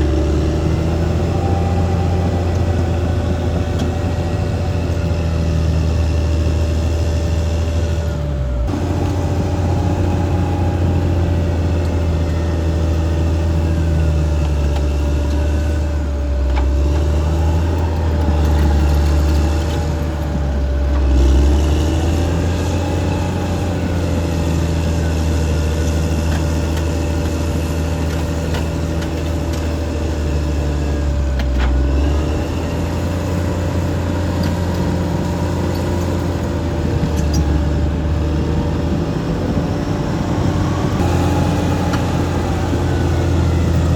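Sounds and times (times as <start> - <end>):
bulldozer diesel engine running: 0.0 - 43.9
steady whine: 0.0 - 43.9.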